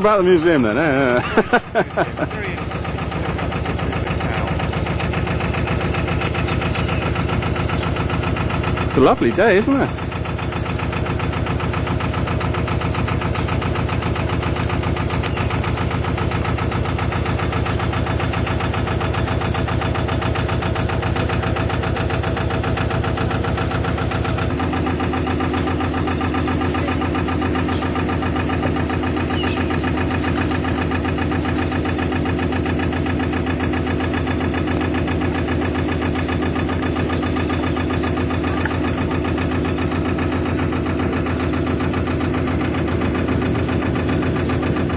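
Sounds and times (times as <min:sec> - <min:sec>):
boat diesel engine running: 0:00.0 - 0:44.9.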